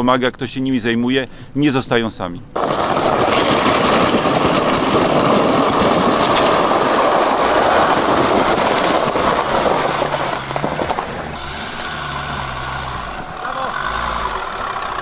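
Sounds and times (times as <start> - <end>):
car engine and tyre noise: 2.5 - 15.0.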